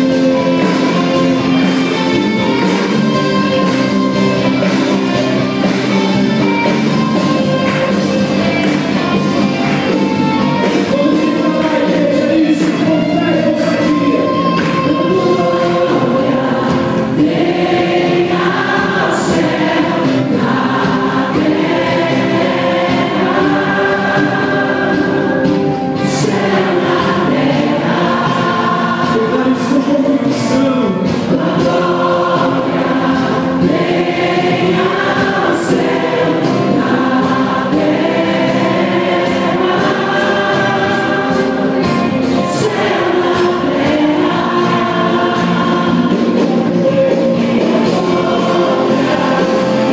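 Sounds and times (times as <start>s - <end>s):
choir singing slow worship song: 0.0s - 49.9s
instrumental accompaniment: 0.0s - 49.9s.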